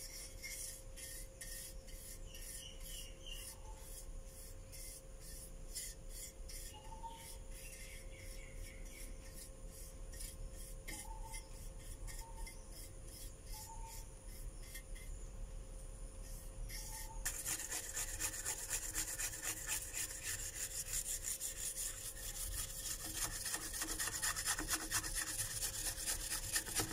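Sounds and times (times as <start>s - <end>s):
brush scrubbing metal plaque: 0.0s - 15.2s, 16.2s - 26.9s
faint steady hum: 0.0s - 26.9s.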